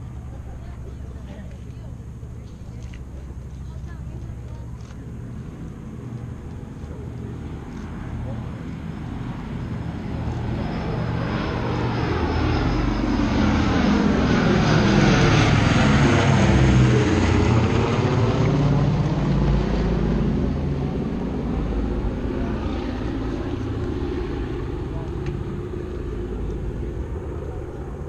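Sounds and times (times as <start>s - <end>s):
propeller plane flying over: 0.0s - 28.0s.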